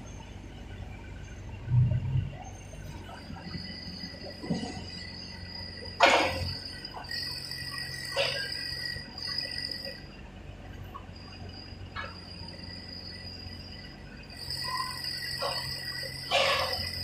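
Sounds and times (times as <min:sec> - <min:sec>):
diesel engine humming: 0:00.0 - 0:17.0
high-pitched whine: 0:00.0 - 0:17.0.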